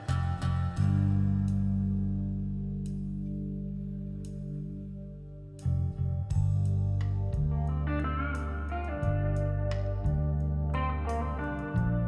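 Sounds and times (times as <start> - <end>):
low sustained guitar chord: 0.0 - 12.0.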